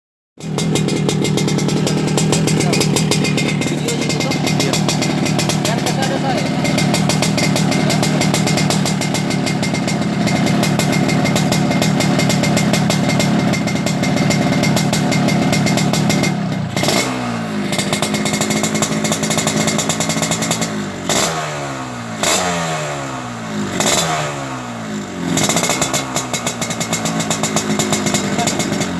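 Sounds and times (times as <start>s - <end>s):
two-stroke motorcycle engine revving: 0.4s - 28.9s.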